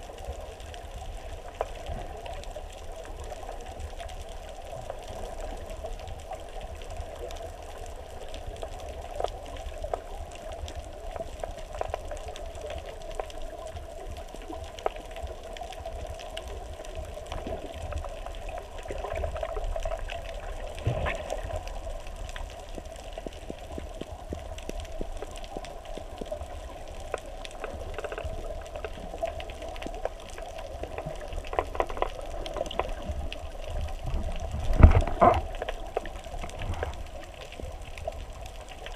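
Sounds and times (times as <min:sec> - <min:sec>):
faint underwater clicks: 0:00.0 - 0:38.9
muffled underwater rush: 0:00.0 - 0:38.9.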